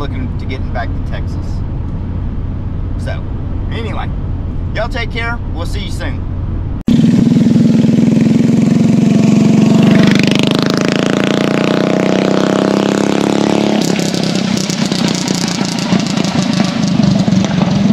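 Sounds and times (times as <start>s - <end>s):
engine revving: 0.0s - 17.9s.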